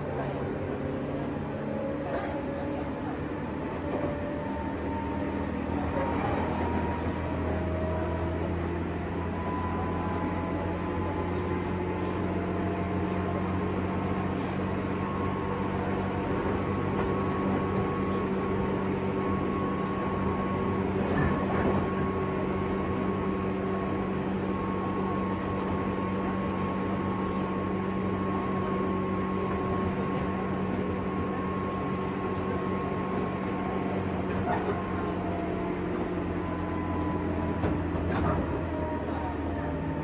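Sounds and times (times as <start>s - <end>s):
electric train rumble: 0.0s - 40.0s.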